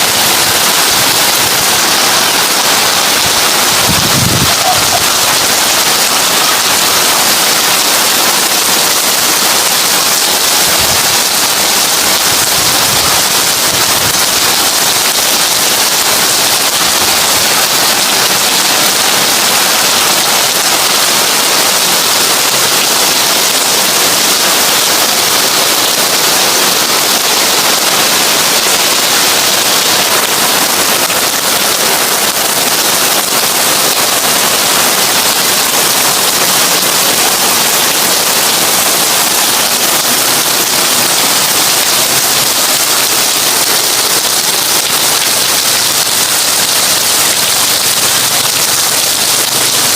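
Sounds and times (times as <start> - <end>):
heavy rain on tin roof: 0.0 - 49.9.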